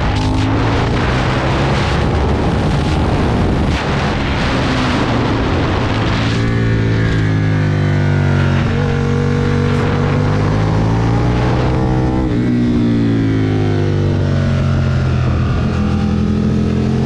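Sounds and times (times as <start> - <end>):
motorcycle engine accelerating hard: 0.0 - 17.0.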